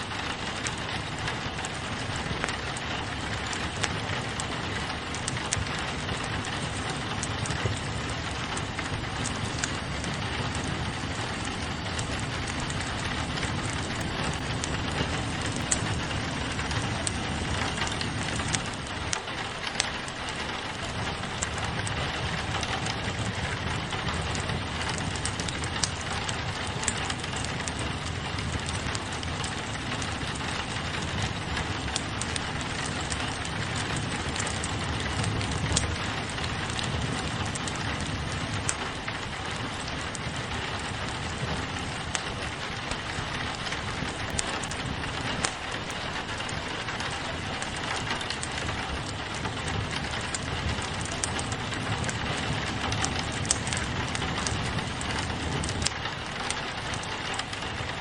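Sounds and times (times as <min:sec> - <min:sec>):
rain on a window: 0:00.0 - 0:58.0
wood fire crackling: 0:00.0 - 0:58.0.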